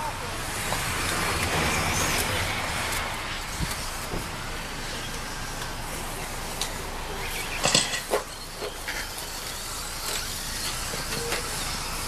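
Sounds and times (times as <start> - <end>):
rc trucks motors and tyres hissing: 0.0 - 12.0.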